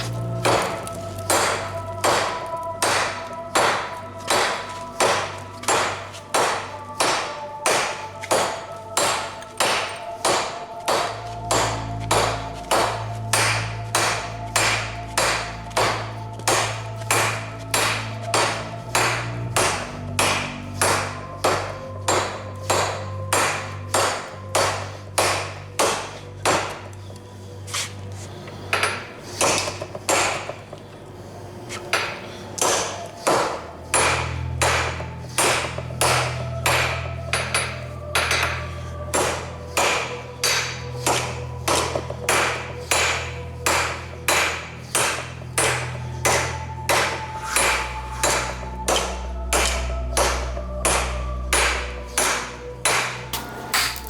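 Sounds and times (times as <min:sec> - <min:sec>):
low hum: 0:00.0 - 0:54.0
hammer striking steel on anvil: 0:01.3 - 0:26.8, 0:28.7 - 0:30.6, 0:31.9 - 0:54.0.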